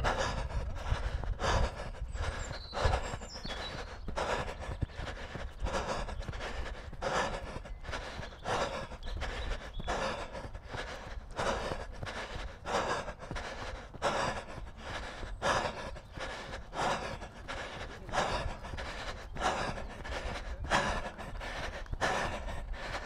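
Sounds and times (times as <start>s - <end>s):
runner breathing heavily: 0.0s - 23.0s.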